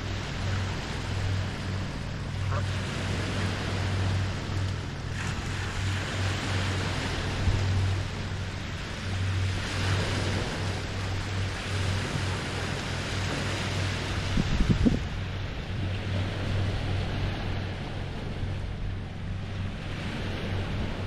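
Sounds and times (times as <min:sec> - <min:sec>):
waves lapping on shore: 0:00.0 - 0:21.0.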